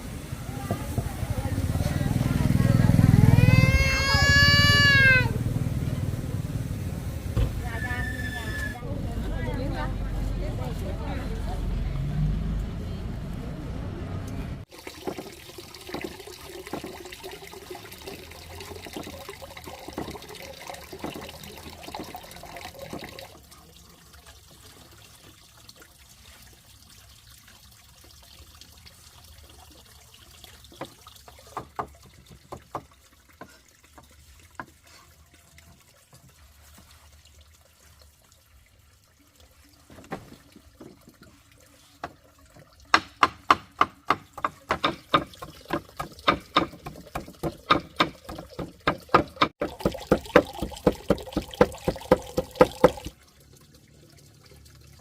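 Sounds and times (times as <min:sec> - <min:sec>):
water trickling and splashing: 0:00.0 - 0:13.5, 0:14.6 - 0:55.0.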